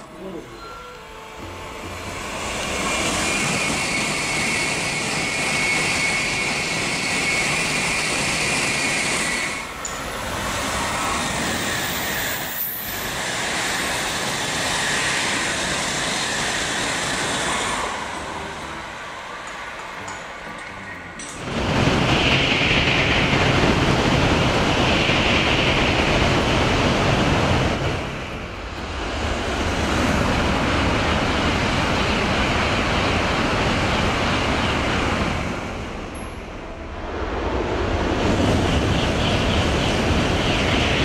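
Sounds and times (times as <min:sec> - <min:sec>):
high-speed trains rushing past: 0:00.0 - 0:41.0.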